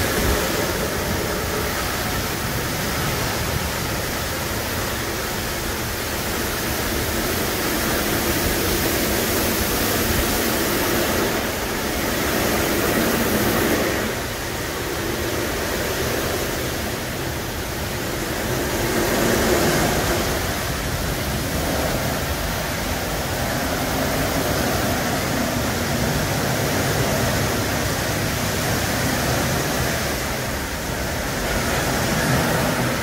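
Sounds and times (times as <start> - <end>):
rotating brush scrubbing truck: 0.0 - 33.0
water spraying: 0.0 - 33.0.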